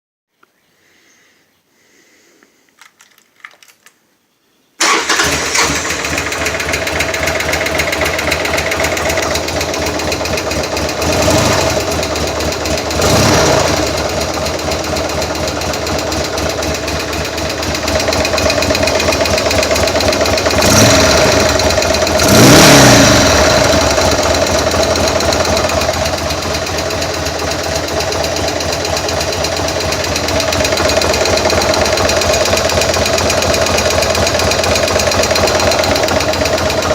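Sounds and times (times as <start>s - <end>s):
engine knocking: 4.8s - 36.9s
engine throttle blips: 4.8s - 36.9s
motorcycle engine idling: 4.8s - 36.9s
motorcycle engine starting: 4.8s - 36.9s.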